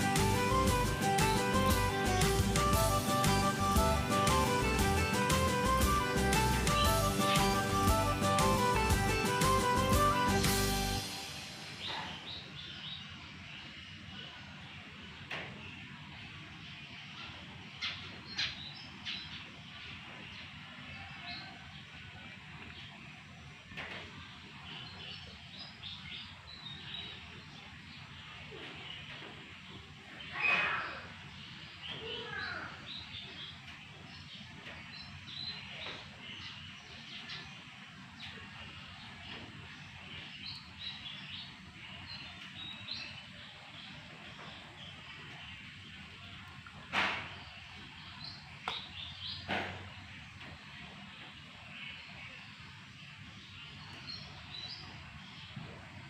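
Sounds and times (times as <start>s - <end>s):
birds chirping: 0.0s - 56.0s
low background noise: 0.0s - 56.0s.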